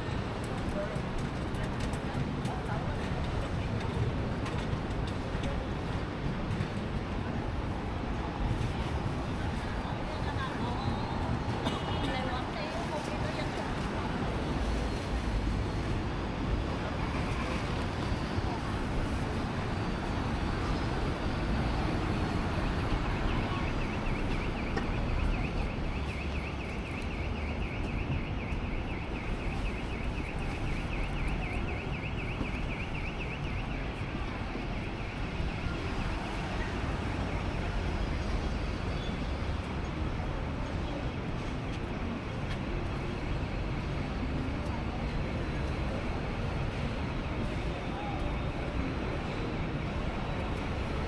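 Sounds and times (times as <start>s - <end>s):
road traffic hum: 0.0s - 51.0s.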